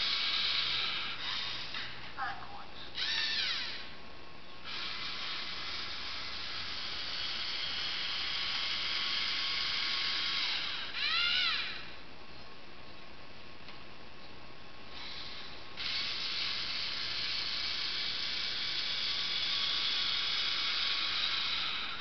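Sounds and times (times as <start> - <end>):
servo motors whining: 0.0 - 4.0, 4.6 - 12.0, 14.9 - 22.0.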